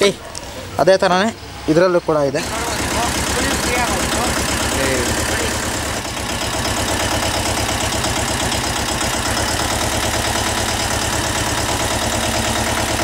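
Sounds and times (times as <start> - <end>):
tractor diesel engine idling: 2.2 - 13.0.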